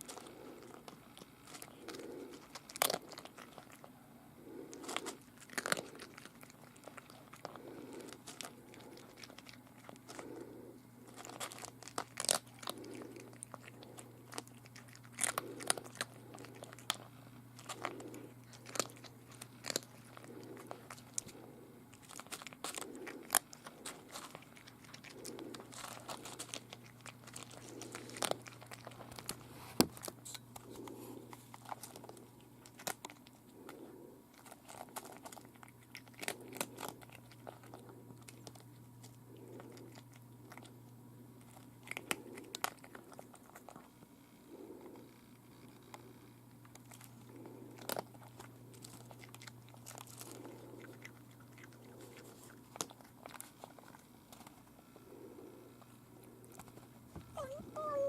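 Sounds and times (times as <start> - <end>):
cat crunching dry food: 0.0 - 58.0.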